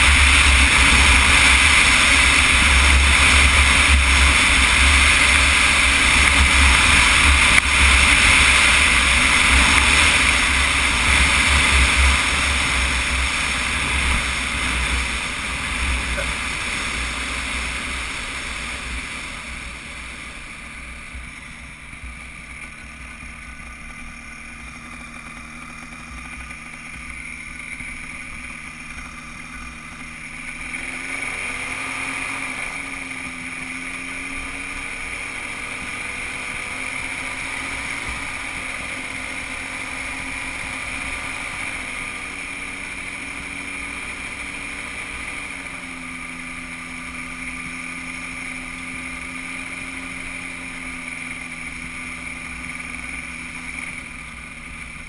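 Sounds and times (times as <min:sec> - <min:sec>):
microlight engine running: 0:00.0 - 0:55.0.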